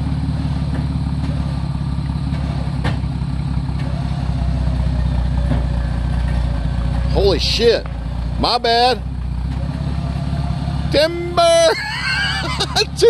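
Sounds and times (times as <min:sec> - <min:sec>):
electric winch hauling cable: 0:00.0 - 0:13.0
truck engine idling: 0:00.0 - 0:13.0.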